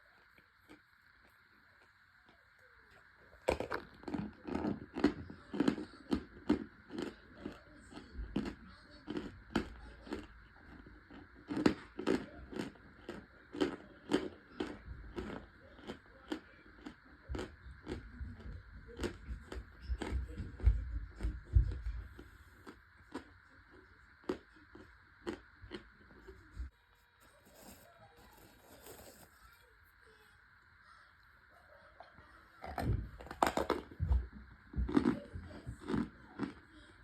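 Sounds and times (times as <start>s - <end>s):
person chewing crunchy food: 0.0s - 26.6s, 32.6s - 36.8s.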